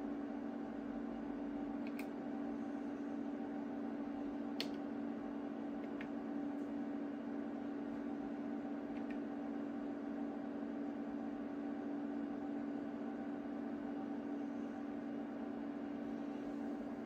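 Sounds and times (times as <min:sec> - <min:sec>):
cooling fans humming: 0:00.0 - 0:17.0.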